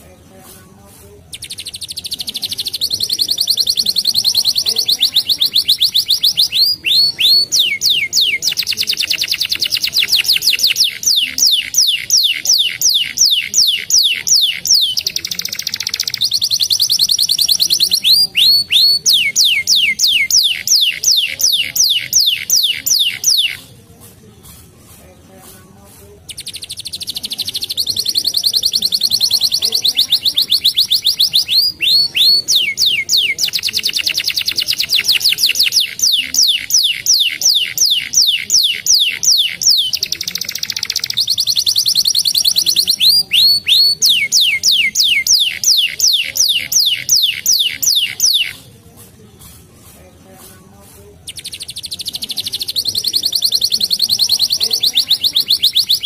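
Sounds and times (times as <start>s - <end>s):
canary singing trills: 1.3s - 23.9s, 26.3s - 48.8s, 51.1s - 56.0s.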